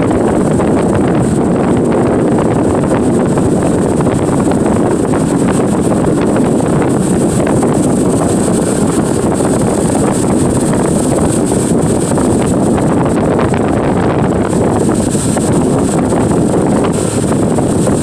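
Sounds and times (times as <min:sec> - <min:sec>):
boat engine and hull noise: 0:00.0 - 0:18.0
wind buffeting microphone: 0:00.0 - 0:18.0.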